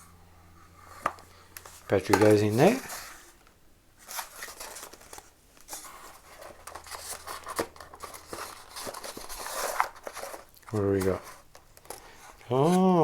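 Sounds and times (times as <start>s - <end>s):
rustling and clicks of handling: 0.9s - 13.0s.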